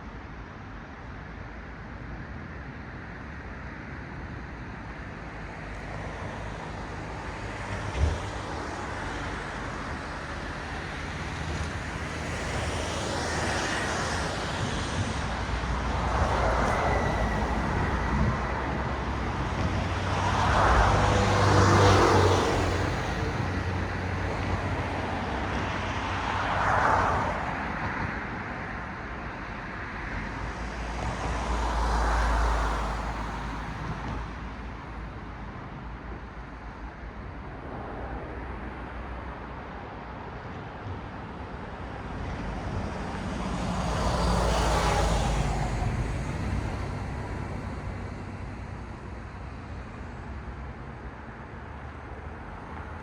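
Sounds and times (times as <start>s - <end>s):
cars passing on road: 0.0s - 53.0s.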